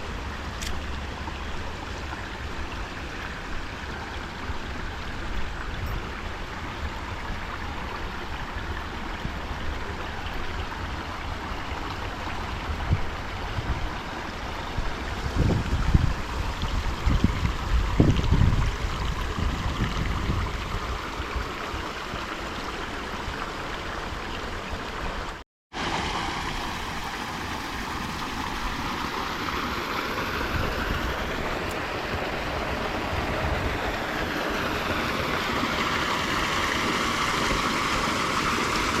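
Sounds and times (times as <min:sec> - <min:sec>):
creek babbling over rocks: 0:00.0 - 0:39.0.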